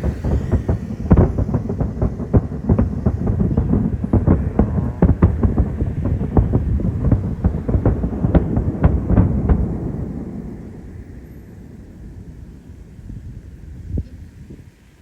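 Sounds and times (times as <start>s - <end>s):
firework shells bursting: 0.0s - 13.4s
low rumble: 0.0s - 14.6s.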